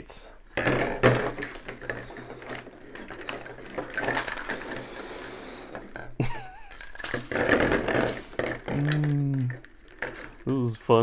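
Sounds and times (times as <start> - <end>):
plastic bulbs and cable clattering: 0.5 - 10.8.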